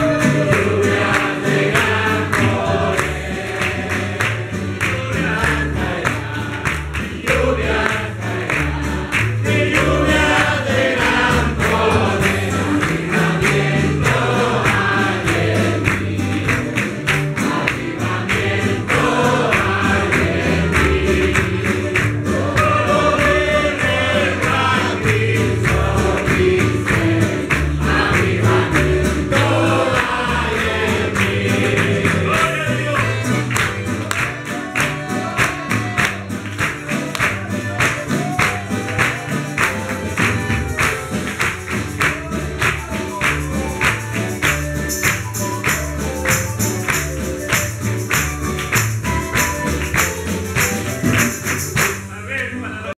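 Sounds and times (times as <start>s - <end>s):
congregation singing a hymn: 0.0s - 52.0s
bass line: 0.0s - 52.1s
drum beats: 0.0s - 52.1s.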